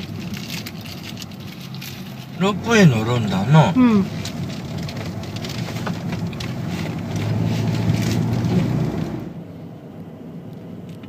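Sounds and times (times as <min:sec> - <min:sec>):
car engine hum: 0:00.0 - 0:11.0
tyre and road noise: 0:00.0 - 0:11.0.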